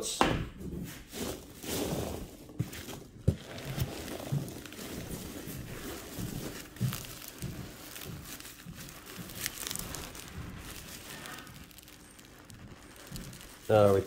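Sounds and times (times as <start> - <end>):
bubble wrap crinkling: 1.0 - 14.0
packing peanuts rustling: 1.1 - 14.0.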